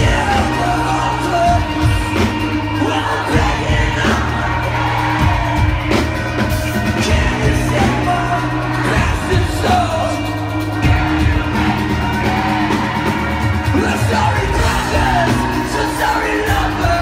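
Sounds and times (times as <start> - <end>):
bass and guitar: 0.0 - 17.0
heavy drums: 0.0 - 17.0
singer's vocals: 0.0 - 17.0.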